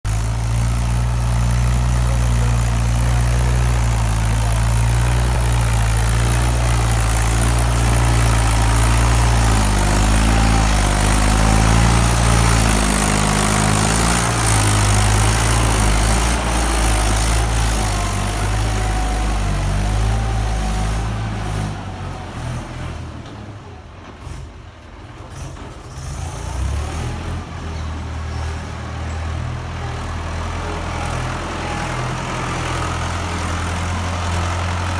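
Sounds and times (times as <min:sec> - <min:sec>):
tractor diesel engine drone: 0:00.0 - 0:34.9.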